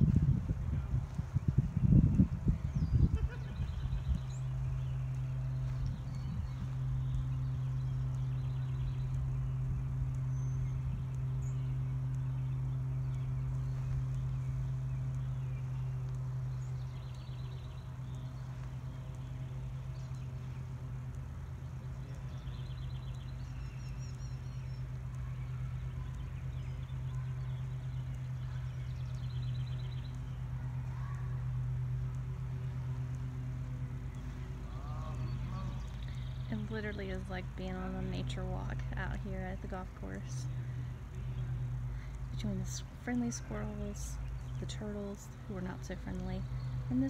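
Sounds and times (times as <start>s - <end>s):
low engine hum: 0.0s - 47.0s.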